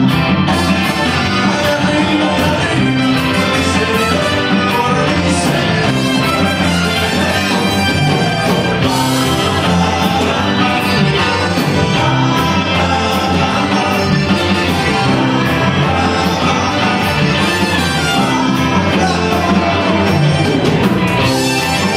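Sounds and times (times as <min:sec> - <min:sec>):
accordion: 0:00.0 - 0:21.9
person singing: 0:00.0 - 0:21.9
rock and roll band playing: 0:00.0 - 0:21.9.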